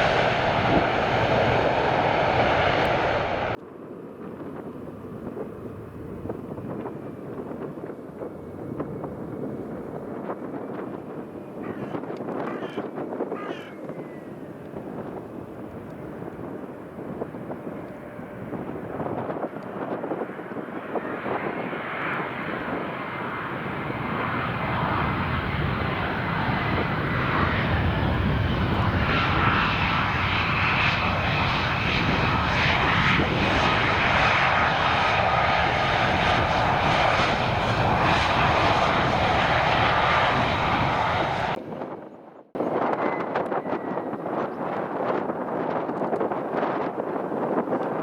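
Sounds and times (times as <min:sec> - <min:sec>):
jet engines whining and rumbling: 0:00.0 - 0:13.2, 0:13.9 - 0:48.0.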